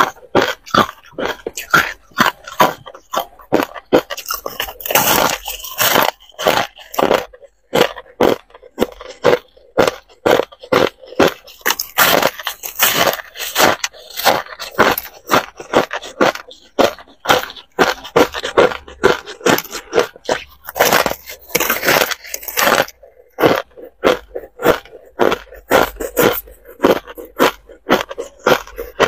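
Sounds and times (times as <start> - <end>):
ice crunching between teeth: 0.0 - 29.0.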